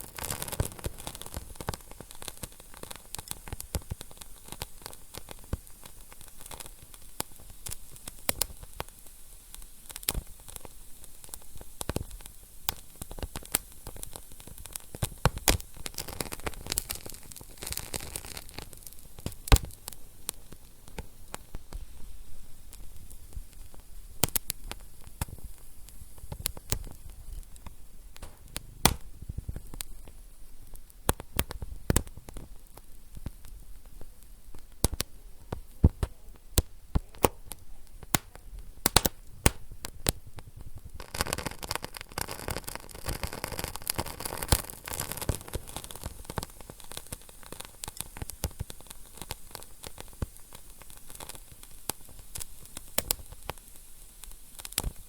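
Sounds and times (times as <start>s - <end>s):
steady hiss: 0.0s - 55.0s
wood fire crackling: 0.0s - 55.0s.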